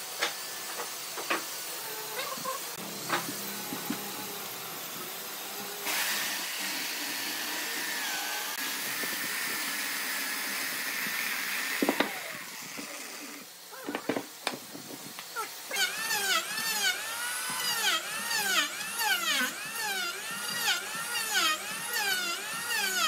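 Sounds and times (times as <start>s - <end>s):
electric chainsaw cutting wood: 0.0s - 14.3s, 15.3s - 23.0s.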